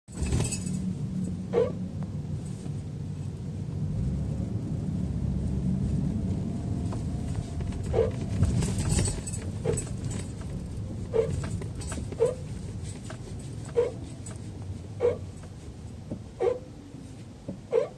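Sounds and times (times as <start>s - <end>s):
brakes squeaking: 0.1s - 17.9s
low steady rumble: 0.1s - 17.9s.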